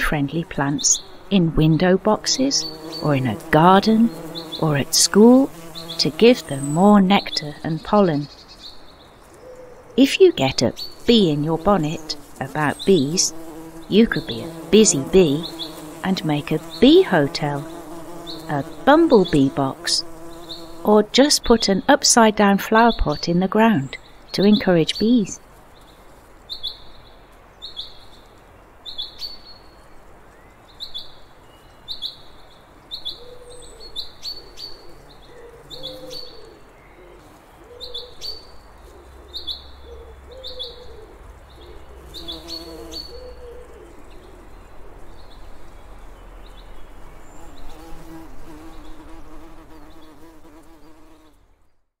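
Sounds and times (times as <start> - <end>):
birds chirping: 0.0 - 51.8.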